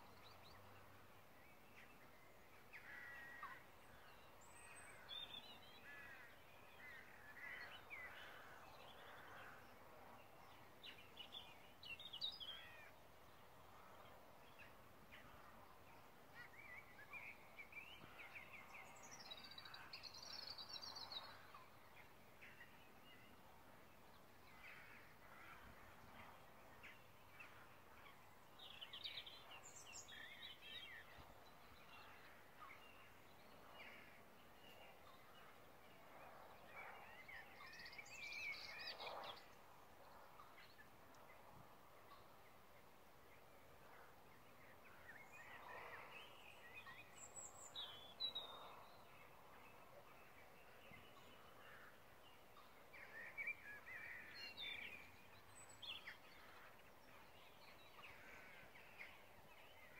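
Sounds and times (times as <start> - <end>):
low background hiss: 0.0 - 59.9.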